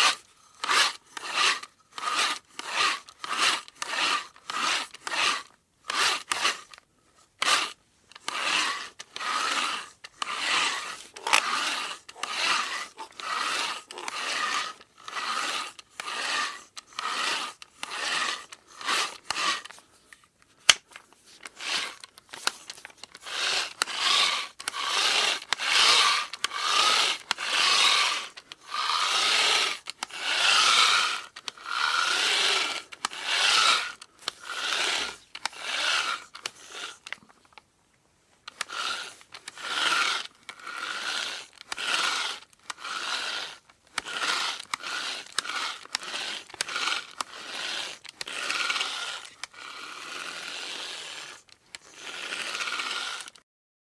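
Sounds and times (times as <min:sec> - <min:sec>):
hand drill rasping: 0:00.0 - 0:37.6, 0:38.4 - 0:53.4.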